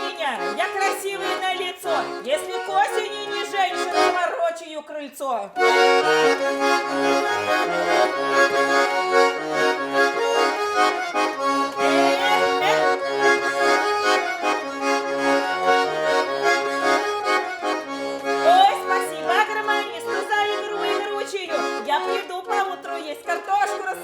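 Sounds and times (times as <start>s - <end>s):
button accordion lively melody: 0.0s - 4.8s, 5.6s - 24.0s.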